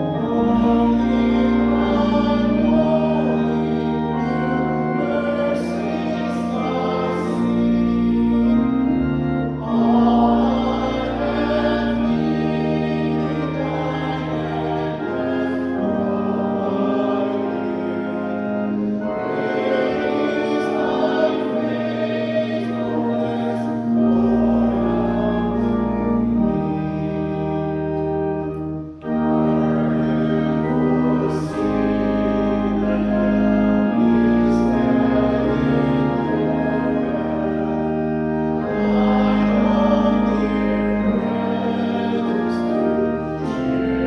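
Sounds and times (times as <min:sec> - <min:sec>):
church organ chords: 0:00.0 - 0:44.0.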